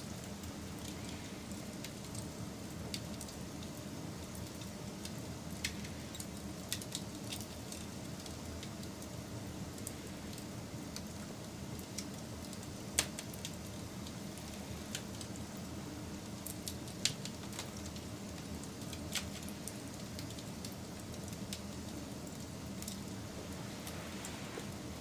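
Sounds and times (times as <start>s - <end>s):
burning wood crackling and popping: 0.0s - 25.0s
campfire hissing: 0.0s - 25.0s.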